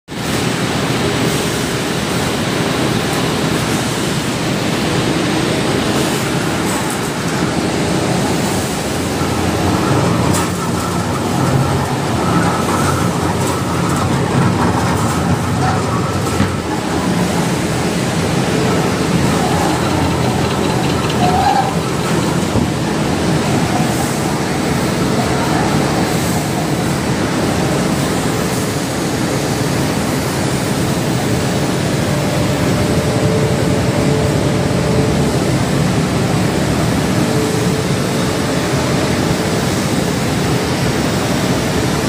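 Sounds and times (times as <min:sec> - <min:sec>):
machine rumbling and rattling: 0:00.2 - 0:42.0.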